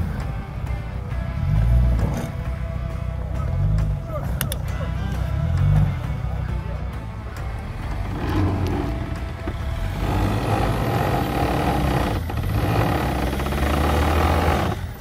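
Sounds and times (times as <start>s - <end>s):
engine rumbling under load: 0.0s - 15.0s.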